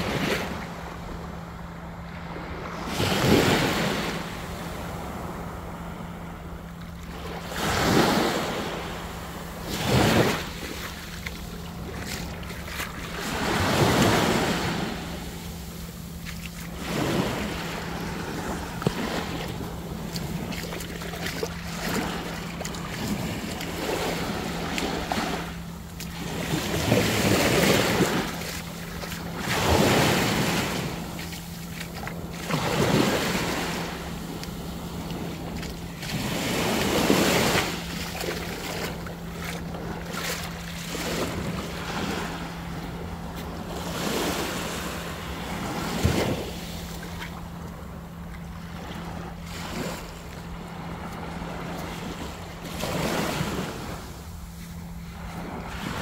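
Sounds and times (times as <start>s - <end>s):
steady low hum: 0.0s - 56.0s
waves washing onto beach: 0.0s - 56.0s.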